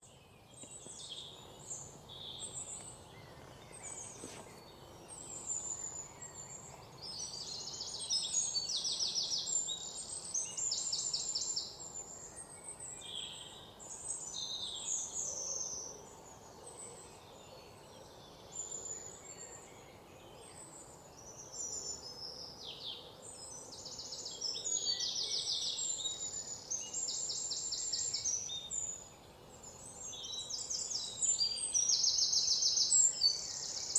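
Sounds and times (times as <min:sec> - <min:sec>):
birds chirping and singing: 0:00.0 - 0:33.9
faint background hiss: 0:00.0 - 0:33.9.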